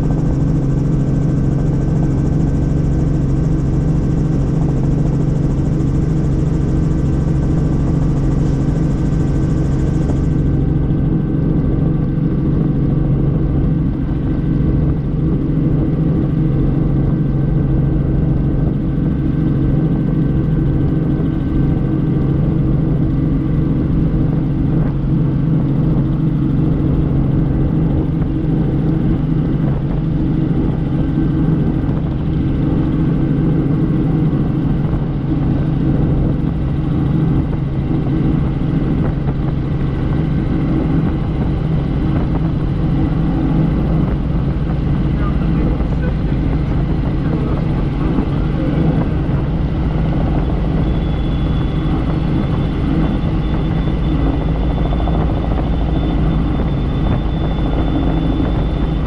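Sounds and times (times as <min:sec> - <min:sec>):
helicopter flying: 0:00.0 - 0:59.0.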